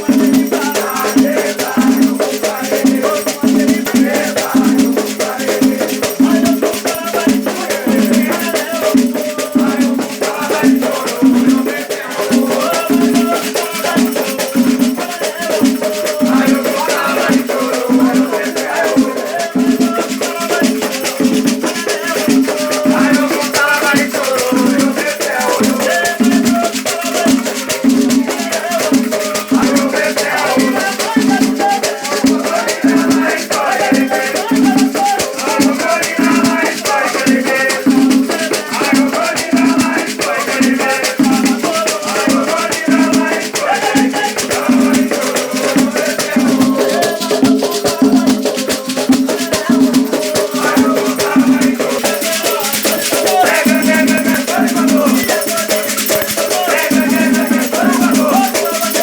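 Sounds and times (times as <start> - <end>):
drum beating steady beat: 0.0 - 59.0
shaken rattles hissing: 0.0 - 59.0
voices singing: 0.0 - 59.0.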